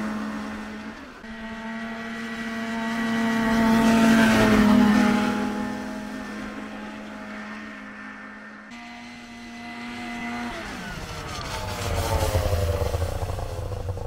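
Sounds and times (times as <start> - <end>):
snowmobile engine passing: 0.0 - 14.0.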